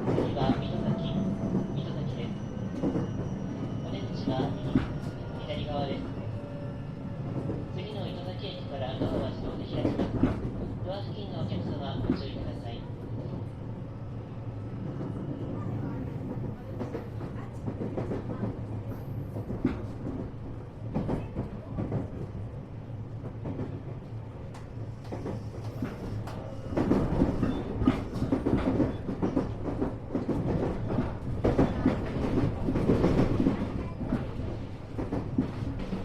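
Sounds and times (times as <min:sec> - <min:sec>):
train running hum: 0:00.0 - 0:36.0.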